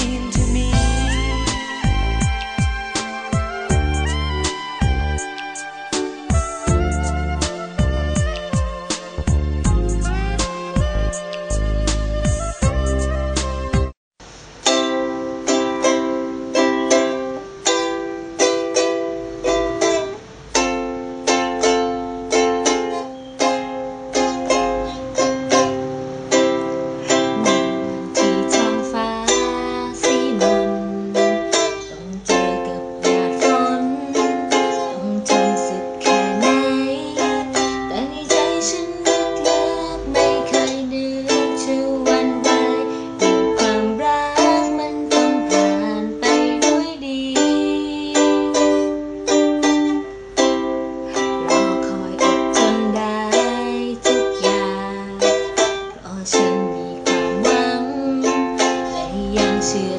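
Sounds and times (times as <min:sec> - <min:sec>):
plucked string instrument strumming: 0:00.0 - 0:59.9.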